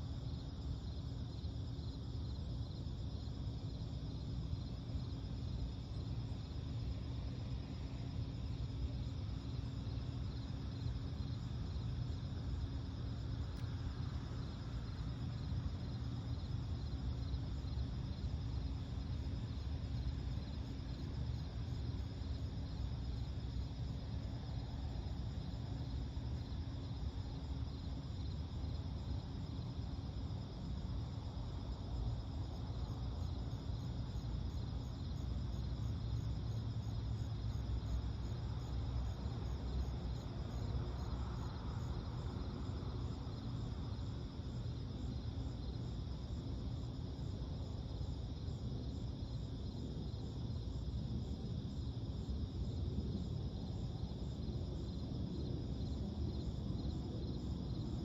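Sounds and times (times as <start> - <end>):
crickets trilling: 0.0 - 58.0
low steady rumble: 0.0 - 58.0.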